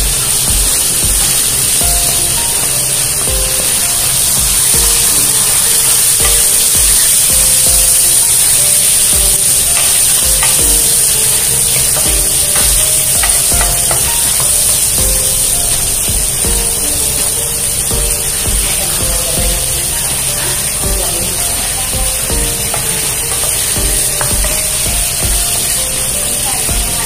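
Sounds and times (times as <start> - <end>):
background music with beat: 0.0 - 27.0
onions sizzling in oil: 0.0 - 27.0.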